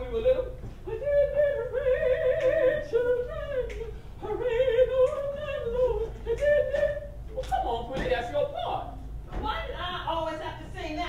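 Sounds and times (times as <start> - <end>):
woman singing without words: 0.0 - 9.0.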